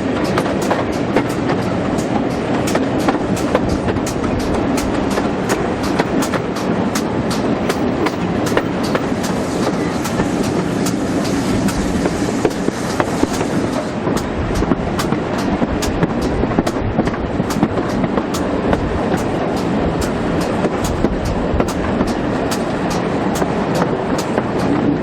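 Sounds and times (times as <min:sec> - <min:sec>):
clickety-clack of wheels: 0:00.0 - 0:25.0
train carriage rumbling: 0:00.0 - 0:25.0.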